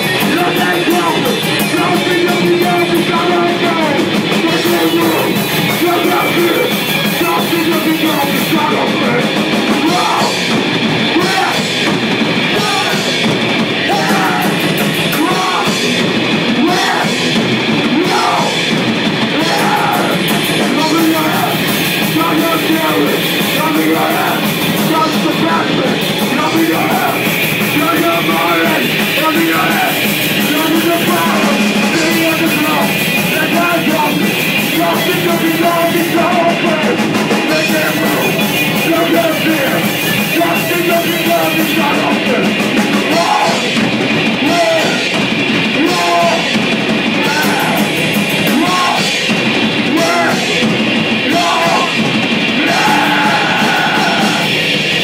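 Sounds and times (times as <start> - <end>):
shouted vocals: 0.0 - 54.6
bass guitar: 0.0 - 55.0
distorted guitars: 0.0 - 55.0
drum kit: 0.0 - 55.0.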